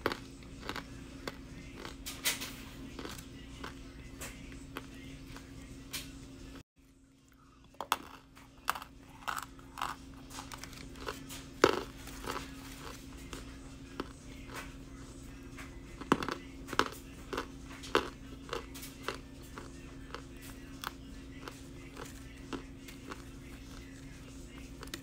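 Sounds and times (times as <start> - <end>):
crunchy chewing: 0.0 - 5.8, 7.2 - 25.0
steady low hum: 0.0 - 25.0.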